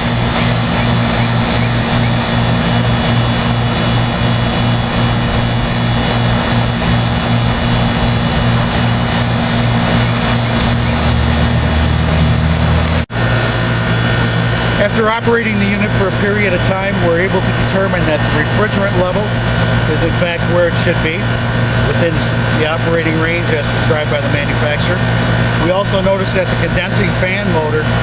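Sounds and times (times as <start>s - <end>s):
air conditioner fan blowing: 0.0s - 28.0s
deeper hum: 0.0s - 28.0s
motor and compressor hum: 0.0s - 28.0s.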